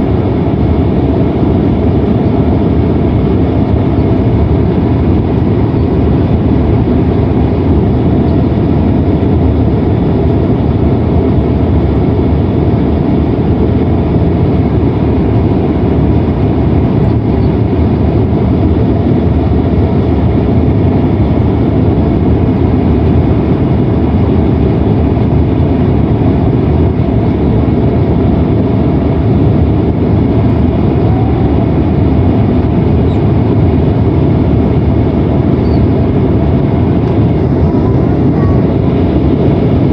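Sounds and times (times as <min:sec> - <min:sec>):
airliner cabin engine roar: 0:00.0 - 0:39.9.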